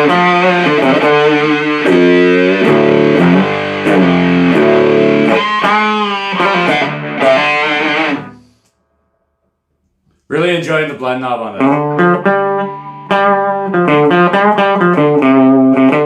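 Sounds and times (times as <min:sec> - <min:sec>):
fuzz electric guitar riff: 0:00.0 - 0:08.6, 0:11.5 - 0:16.0.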